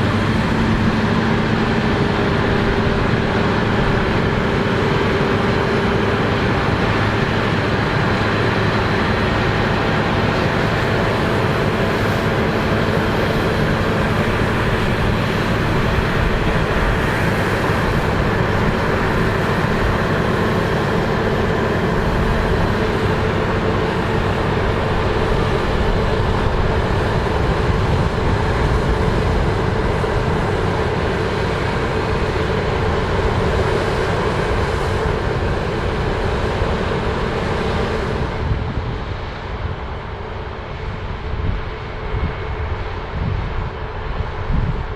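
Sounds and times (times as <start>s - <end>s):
combine harvester running: 0.0s - 44.9s.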